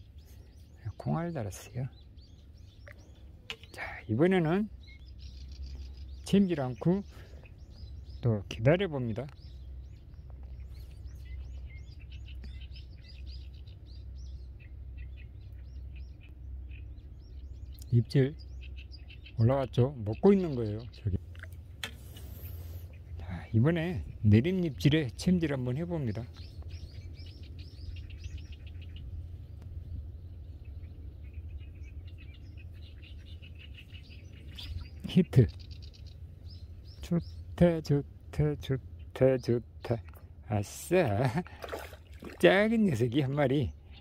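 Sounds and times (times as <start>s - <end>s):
low background rumble: 0.0s - 44.0s
small birds chirping: 0.0s - 44.0s.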